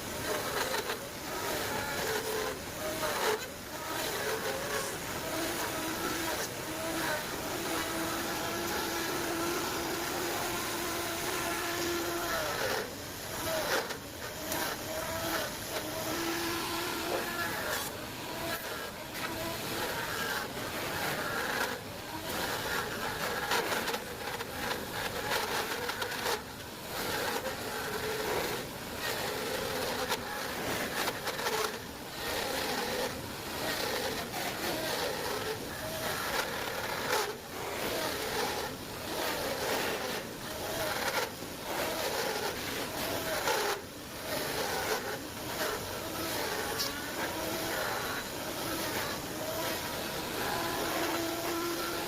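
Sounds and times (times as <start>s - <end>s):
power tool cutting wood: 0.0s - 52.0s.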